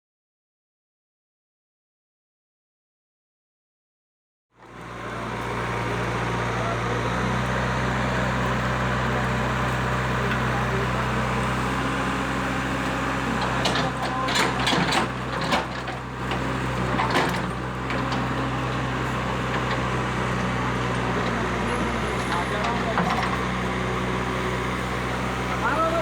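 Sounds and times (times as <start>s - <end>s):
excavator diesel engine: 4.6s - 26.0s.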